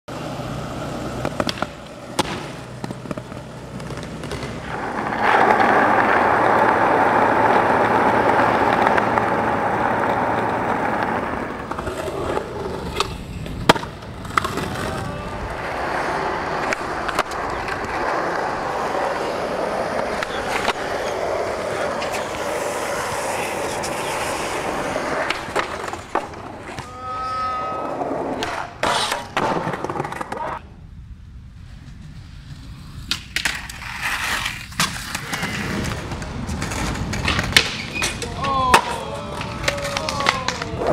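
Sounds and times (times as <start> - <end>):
skateboard wheels rolling on concrete: 0.1 - 40.9
skateboard wooden clacks: 1.1 - 14.9, 16.5 - 26.9, 28.3 - 30.6, 33.0 - 40.9.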